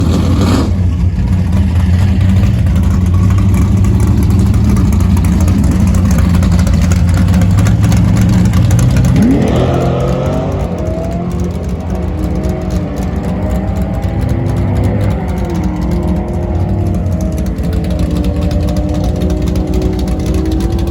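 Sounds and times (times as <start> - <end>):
engine idling and revving: 0.0 - 20.9.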